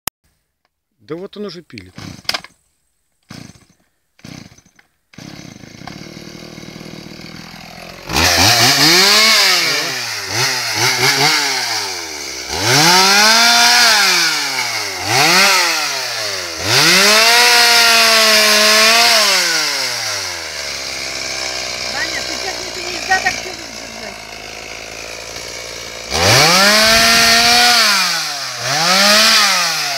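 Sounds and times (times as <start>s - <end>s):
chainsaw sawing branch: 1.7s - 2.6s, 3.2s - 29.9s
chainsaw idling and revving: 1.9s - 2.5s, 3.2s - 29.9s.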